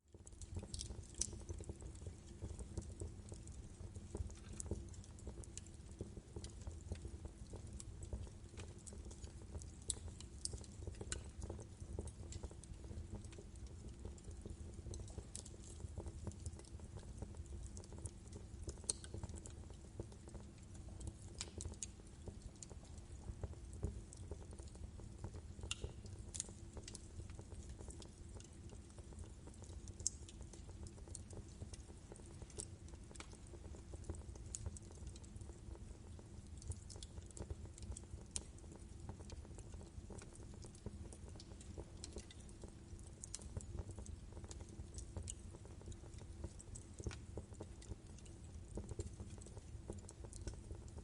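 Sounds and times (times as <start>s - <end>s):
fire pops and snaps: 0.2s - 51.0s.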